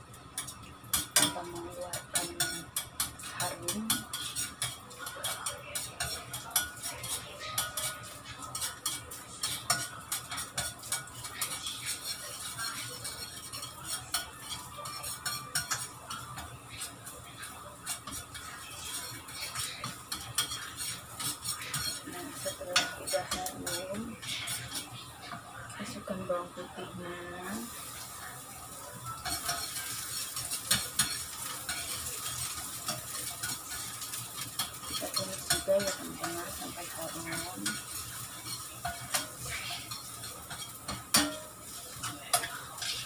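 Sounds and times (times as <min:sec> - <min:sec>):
ginger sizzling in oil: 0:00.0 - 0:43.0
spatula scraping a frying pan: 0:00.4 - 0:26.2, 0:27.6 - 0:43.0.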